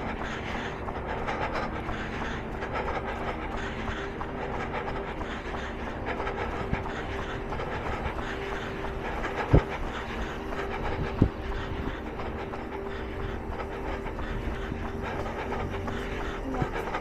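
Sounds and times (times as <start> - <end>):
runner breathing: 0.0 - 17.0.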